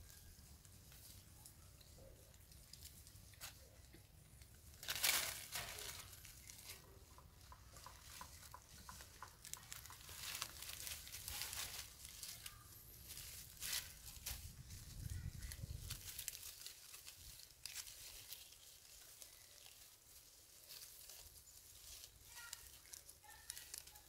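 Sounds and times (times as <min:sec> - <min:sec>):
dry leaves crackling and rustling: 0:00.0 - 0:24.0.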